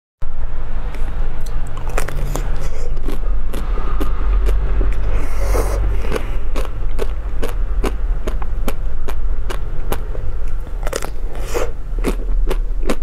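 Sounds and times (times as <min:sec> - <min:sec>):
steady low hum: 0:00.2 - 0:13.0
biting frozen ice cream crackles: 0:01.0 - 0:13.0.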